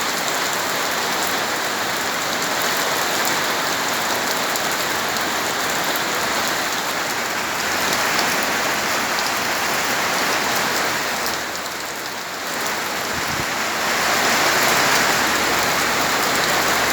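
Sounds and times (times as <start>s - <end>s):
heavy rain pouring: 0.0s - 16.9s.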